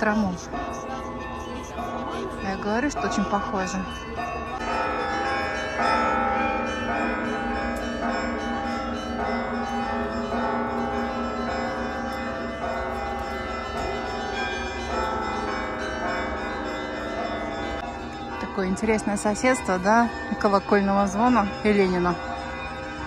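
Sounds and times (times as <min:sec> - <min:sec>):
church bells pealing: 0:00.0 - 0:23.0.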